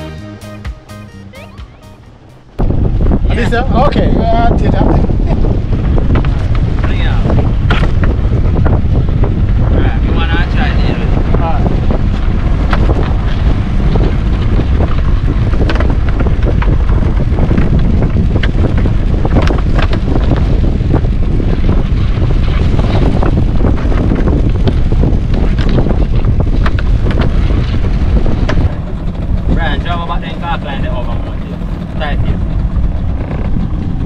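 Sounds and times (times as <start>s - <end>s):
wind buffeting microphone: 2.0s - 34.0s.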